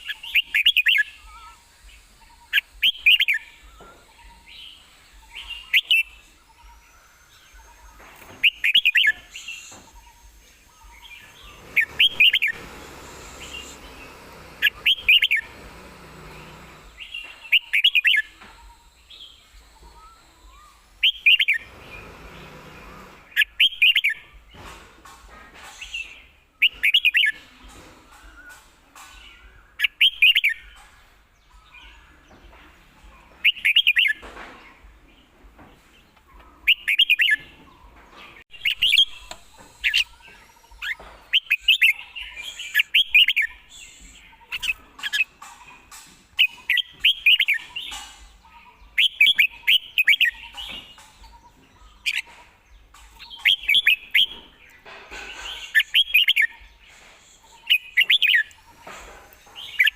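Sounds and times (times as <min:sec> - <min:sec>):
bird singing warbled phrases: 0:00.0 - 0:24.8, 0:25.7 - 0:59.9.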